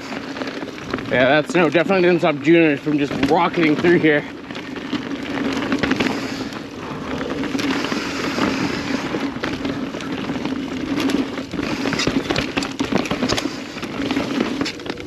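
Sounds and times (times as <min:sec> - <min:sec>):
bike clicking and rattling: 0:00.0 - 0:15.0
bike tyre and wind rush: 0:00.0 - 0:15.0.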